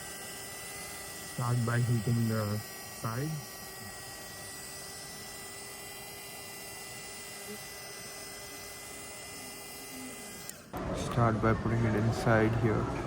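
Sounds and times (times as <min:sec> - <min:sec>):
hot-air blower hissing: 0:00.0 - 0:12.6.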